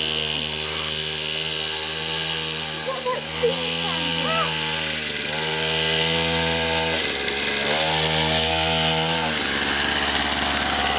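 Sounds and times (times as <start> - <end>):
motorbike engine revving: 0.0 - 10.9.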